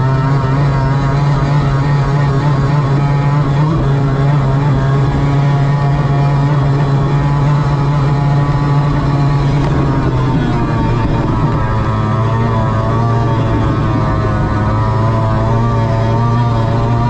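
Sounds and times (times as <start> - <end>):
outboard engine at high revs: 0.0 - 17.0.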